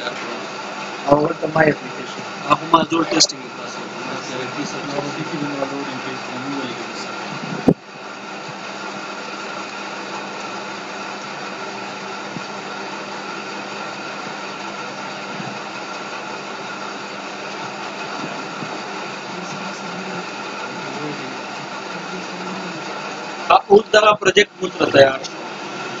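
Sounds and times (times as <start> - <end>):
steady tones: 0.0 - 9.4, 10.0 - 26.0
steady machine hum: 0.0 - 26.0.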